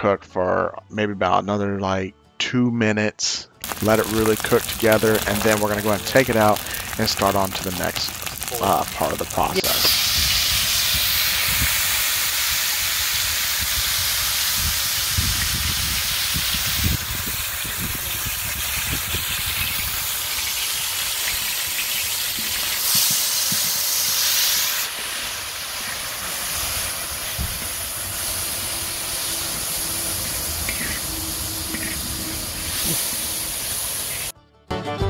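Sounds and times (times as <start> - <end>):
broccoli sizzling in a wok: 3.6 - 34.3.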